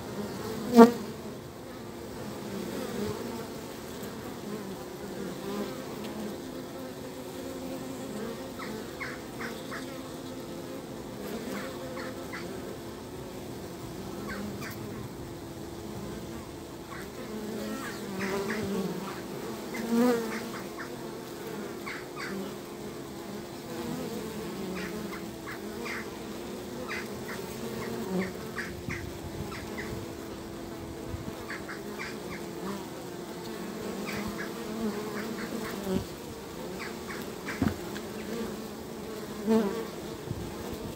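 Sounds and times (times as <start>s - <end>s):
honeybees buzzing: 0.0s - 40.9s.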